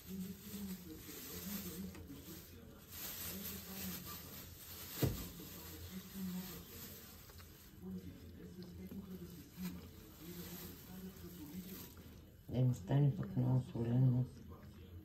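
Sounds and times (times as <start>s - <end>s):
plastic bag rustling: 0.0s - 12.3s.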